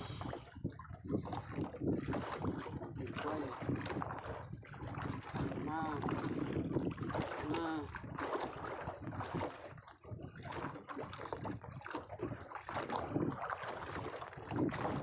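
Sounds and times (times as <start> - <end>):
water slapping against boat: 0.0 - 15.0
wind buffeting microphone: 0.0 - 15.0.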